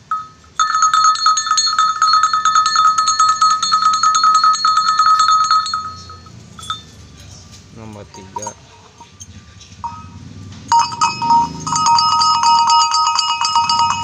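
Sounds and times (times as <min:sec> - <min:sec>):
cow bell clanking: 0:00.0 - 0:14.0.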